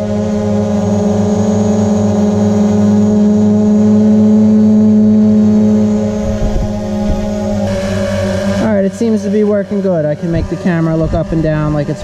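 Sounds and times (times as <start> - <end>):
drone buzzing hum: 0.0 - 12.0.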